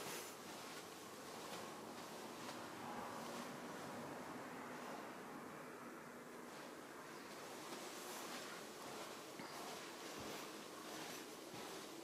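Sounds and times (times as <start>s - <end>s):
soft footsteps on floor: 0.0s - 5.4s, 6.3s - 12.0s
room hiss: 0.0s - 12.0s.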